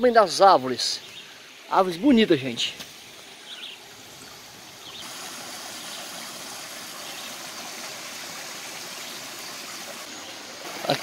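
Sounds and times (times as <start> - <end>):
stream splashing over rocks: 1.6 - 11.0.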